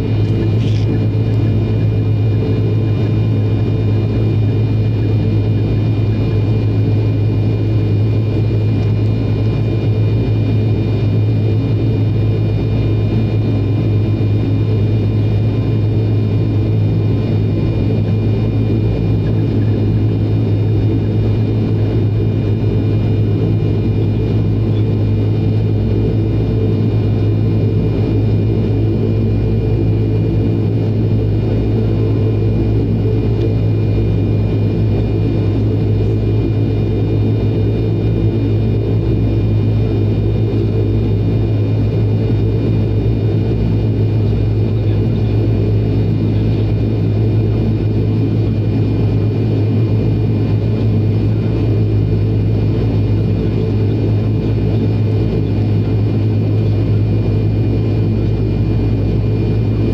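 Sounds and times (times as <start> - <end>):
turboprop engine droning: 0.0 - 59.9.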